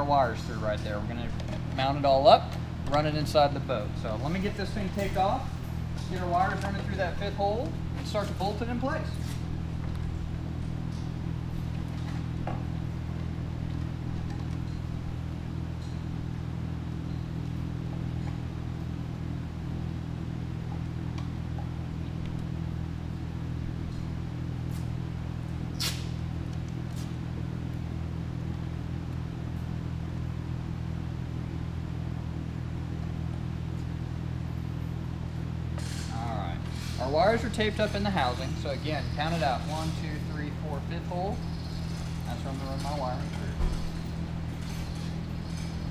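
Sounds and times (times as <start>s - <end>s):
low machine hum: 0.0s - 45.9s.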